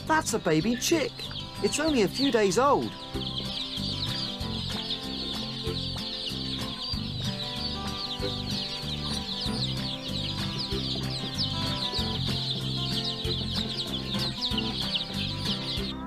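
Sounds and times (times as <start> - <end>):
baby chicks peeping: 0.0 - 16.0
soft background music: 0.0 - 16.0.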